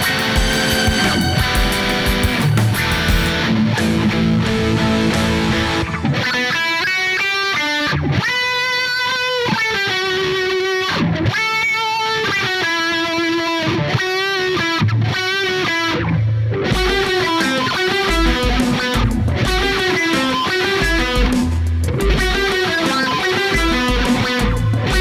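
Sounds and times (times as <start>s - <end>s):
electric guitar lead melody: 0.0s - 25.0s
rock backing track: 0.0s - 25.0s.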